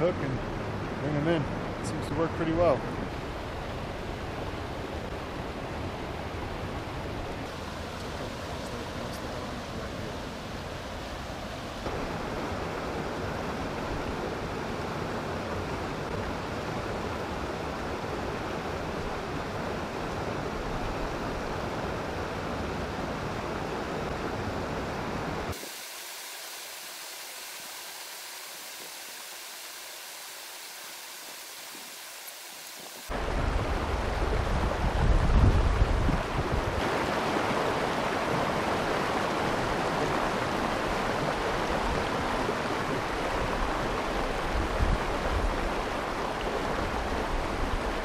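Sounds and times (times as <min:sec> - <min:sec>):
stream rushing over rocks: 0:00.0 - 0:48.0.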